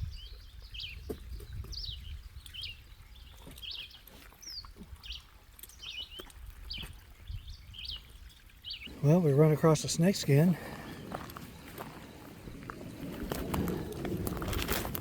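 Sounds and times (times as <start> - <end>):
songbird chirping: 0.0 - 14.6.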